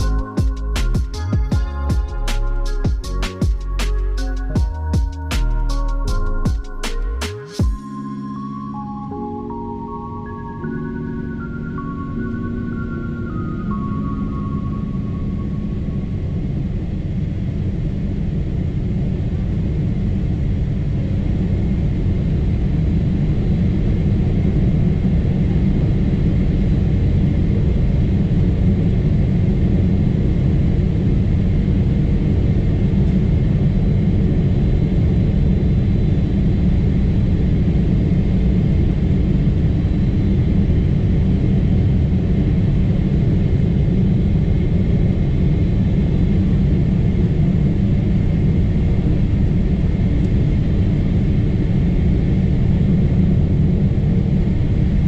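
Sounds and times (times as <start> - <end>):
airplane cabin engine rumble: 0.0 - 55.0
faint high hum: 0.0 - 55.0.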